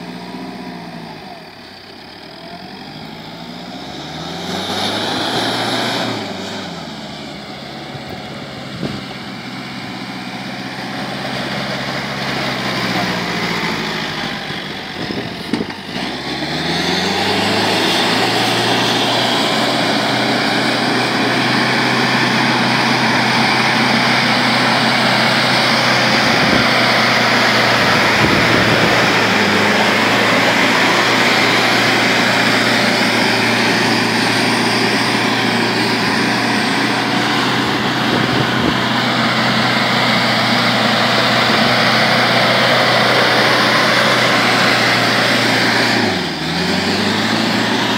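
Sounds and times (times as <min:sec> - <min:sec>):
jeep engine revving: 0:02.1 - 0:47.9.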